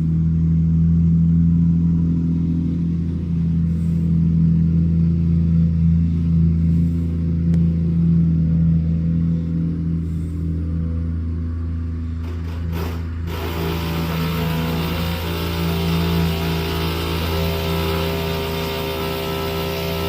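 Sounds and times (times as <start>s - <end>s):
machinery engine humming: 0.0s - 20.0s
hissing whining machine: 1.9s - 20.0s.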